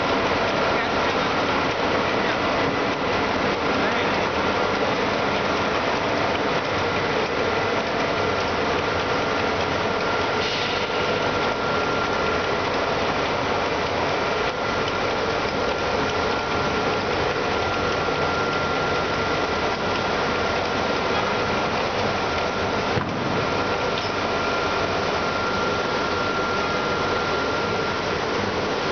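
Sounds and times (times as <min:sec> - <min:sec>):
cutting machine running with whine: 0:00.0 - 0:28.9.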